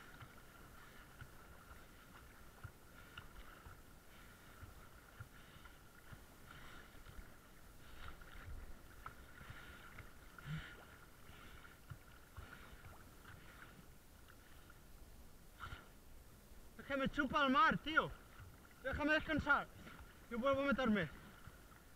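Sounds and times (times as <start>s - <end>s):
sea water sloshing and lapping: 0.0s - 16.3s, 17.4s - 21.9s.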